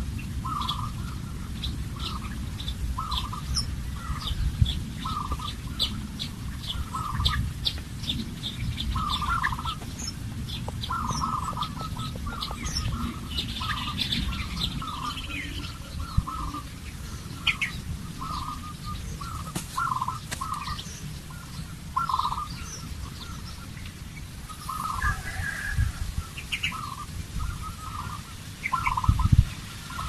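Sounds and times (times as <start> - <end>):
steady low rumble: 0.0 - 28.2
birds calling and chirping: 0.0 - 30.0.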